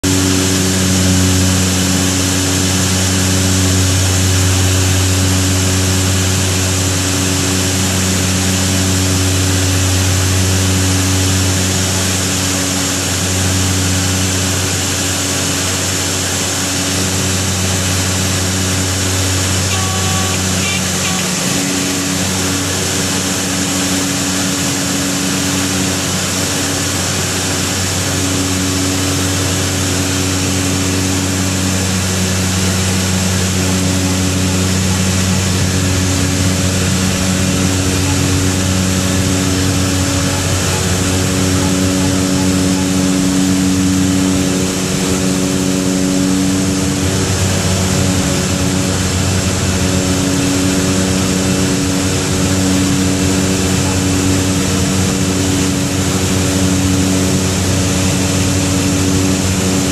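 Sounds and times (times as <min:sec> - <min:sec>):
turboprop engine drone in cabin: 0:00.0 - 0:59.9.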